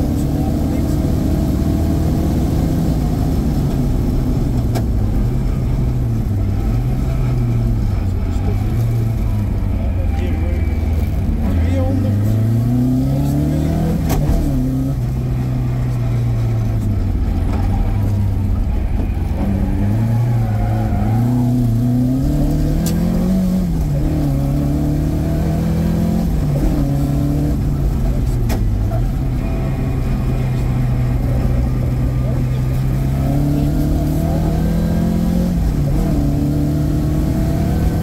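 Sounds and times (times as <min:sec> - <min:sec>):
rally car engine accelerating: 0:00.0 - 0:38.0.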